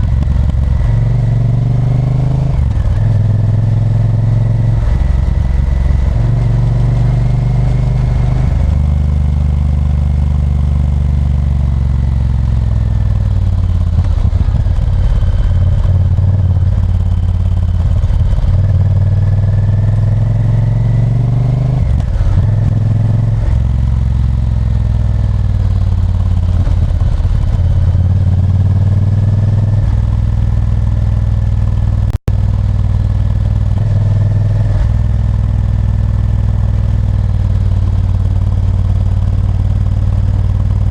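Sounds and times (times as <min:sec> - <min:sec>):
motorcycle engine accelerating through gears: 0:00.0 - 0:40.9.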